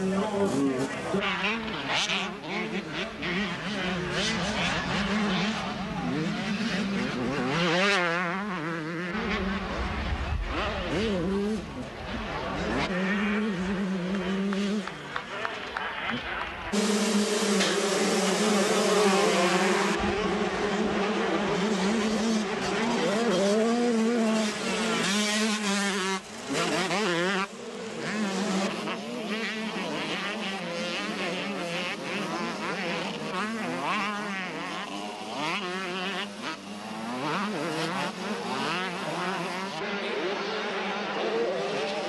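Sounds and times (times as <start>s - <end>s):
motocross bikes revving: 0.0s - 15.5s, 16.1s - 42.0s.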